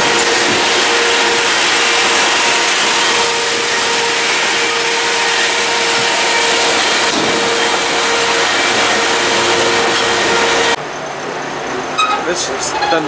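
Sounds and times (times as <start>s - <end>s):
train wheel and rail noise: 0.0s - 13.0s.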